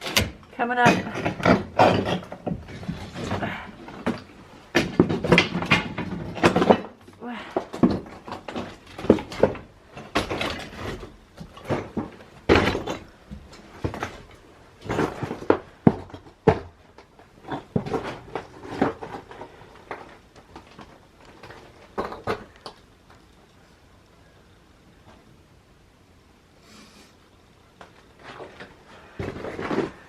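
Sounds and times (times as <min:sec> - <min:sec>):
wood knocking and clattering: 0:00.0 - 0:23.3, 0:27.8 - 0:30.0.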